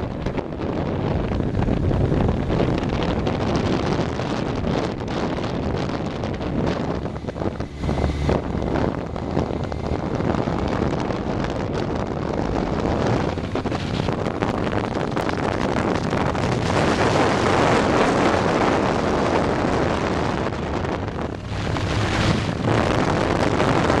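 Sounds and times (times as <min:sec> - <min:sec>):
motorcycle engine: 0:00.0 - 0:24.0
road noise: 0:00.0 - 0:24.0
wind rushing over microphone: 0:00.0 - 0:24.0.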